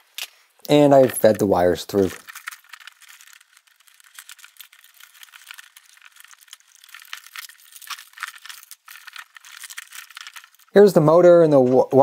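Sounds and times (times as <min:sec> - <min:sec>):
wires rubbing against plastic: 0:00.7 - 0:12.0.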